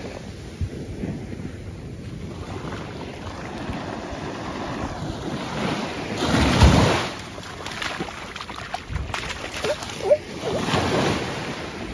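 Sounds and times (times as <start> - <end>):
surf washing onto shore: 0.0 - 11.9.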